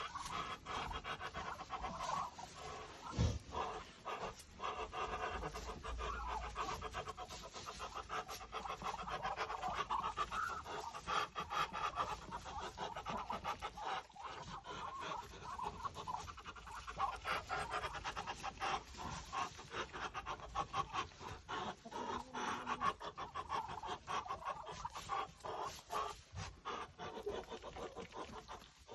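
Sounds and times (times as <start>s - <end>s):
ducks and hens calling: 0.0s - 28.9s.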